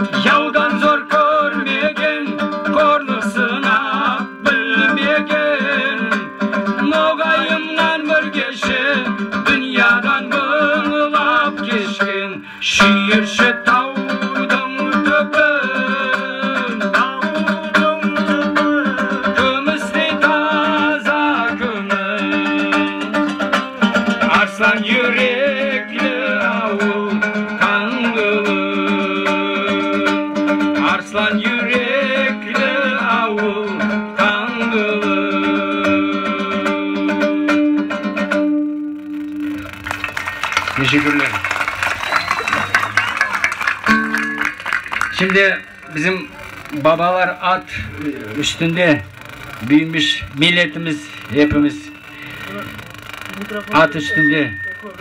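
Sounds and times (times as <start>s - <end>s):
plucked lutes playing folk tune: 0.0s - 41.8s, 42.6s - 55.0s.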